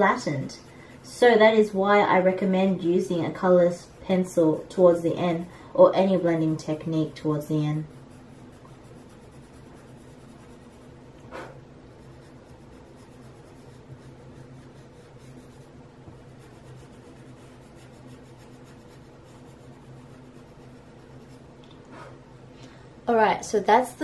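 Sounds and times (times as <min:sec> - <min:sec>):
pencil scratching on paper: 0:00.0 - 0:21.5
low steady hum: 0:00.0 - 0:24.0.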